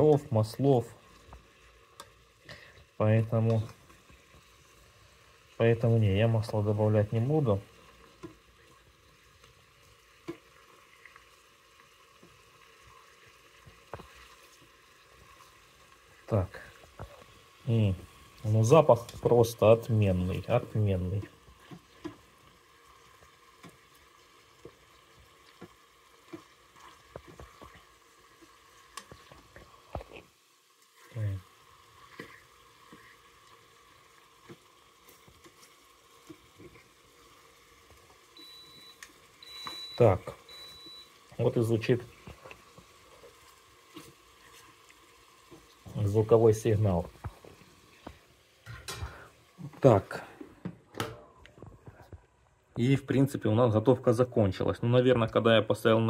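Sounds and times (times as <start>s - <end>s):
meat sizzling: 0.0s - 53.4s.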